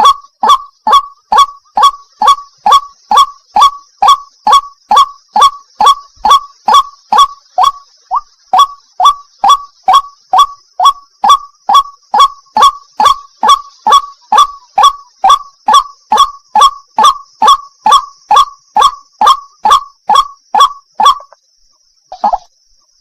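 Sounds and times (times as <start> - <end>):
waterhen calling: 0.0 - 21.4, 22.1 - 22.5.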